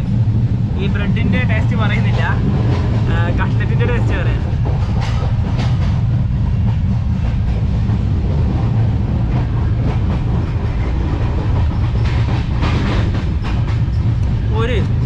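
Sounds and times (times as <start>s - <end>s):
train running gear rumble: 0.0s - 15.0s
wheels clacking over rails: 1.3s - 15.0s.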